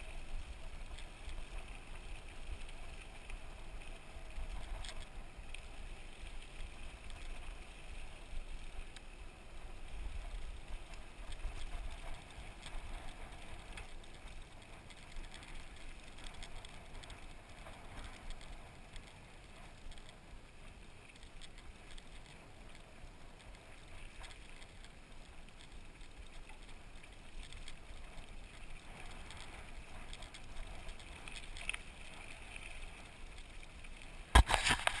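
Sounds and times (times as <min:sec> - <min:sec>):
bike tyres rattling on dirt: 0:00.0 - 0:35.0.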